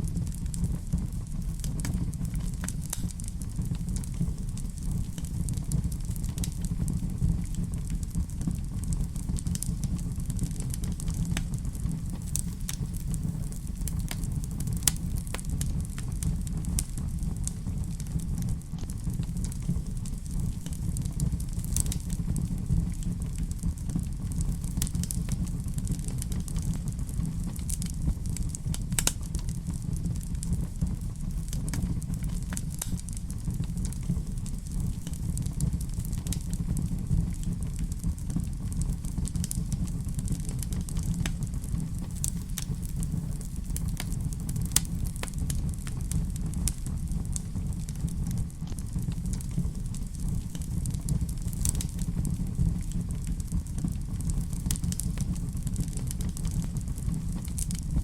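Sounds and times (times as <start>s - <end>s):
fire crackling with pops: 0.0s - 58.0s
low rumble of flames: 0.0s - 58.0s.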